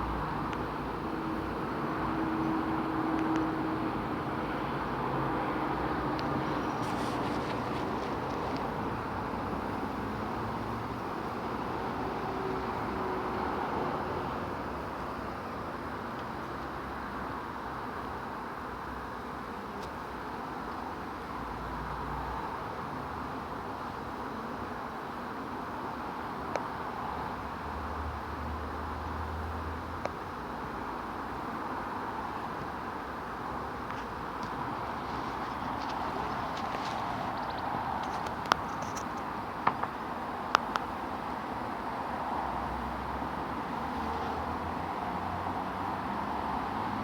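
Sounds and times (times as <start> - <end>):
bee swarm humming: 0.0 - 46.6.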